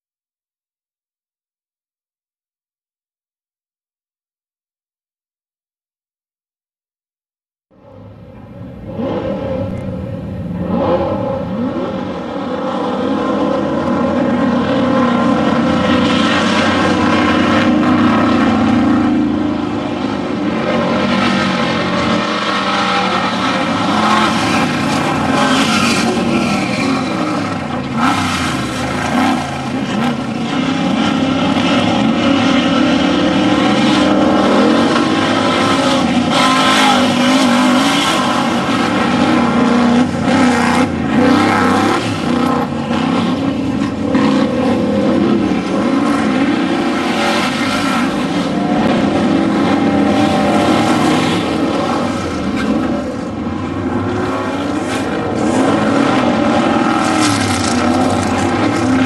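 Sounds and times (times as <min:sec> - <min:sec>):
race vehicle engines revving: 0:07.8 - 0:59.0.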